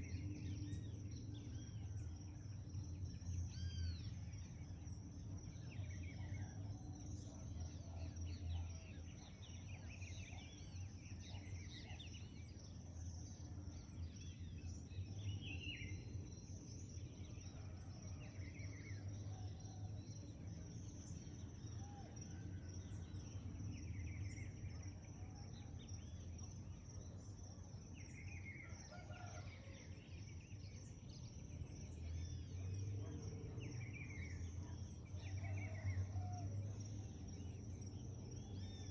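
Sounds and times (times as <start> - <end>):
birds singing and calling: 0.0 - 26.7, 30.1 - 38.9
steady high-pitched hum: 0.0 - 28.9, 29.8 - 38.9.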